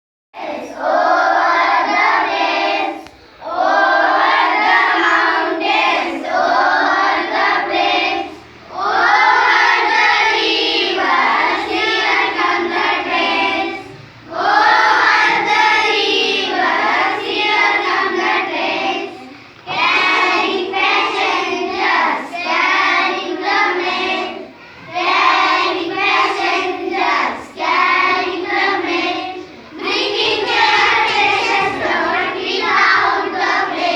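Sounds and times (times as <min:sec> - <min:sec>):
children singing in unison: 0:00.4 - 0:33.9.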